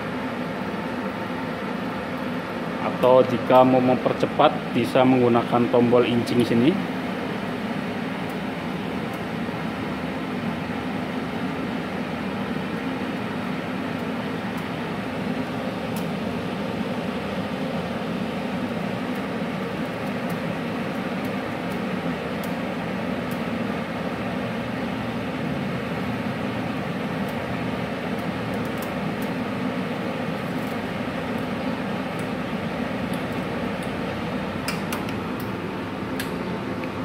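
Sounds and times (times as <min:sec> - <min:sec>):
welder machine hum: 0:00.0 - 0:37.0
welding wire feeder motor running: 0:00.1 - 0:36.9.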